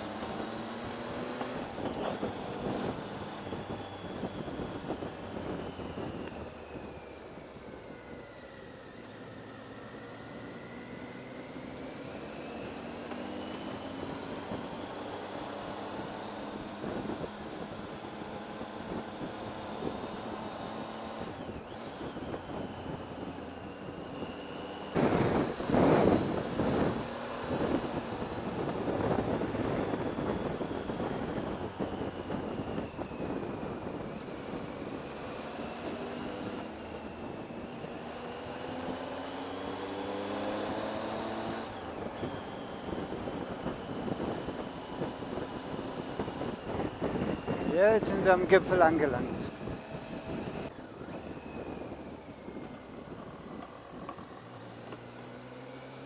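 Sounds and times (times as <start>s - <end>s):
wind rushing over microphone: 0.0s - 8.8s, 11.5s - 55.8s
motorcycle engine running: 0.0s - 56.0s.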